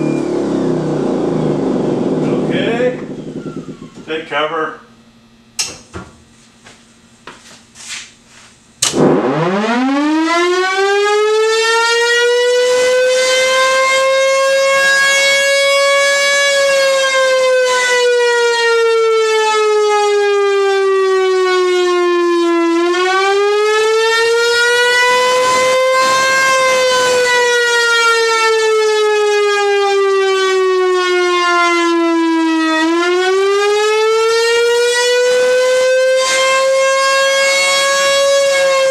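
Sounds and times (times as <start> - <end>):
rotating siren wailing: 0.0 - 4.2, 8.9 - 38.9
siren horn buzzing: 0.0 - 4.3, 8.8 - 38.9.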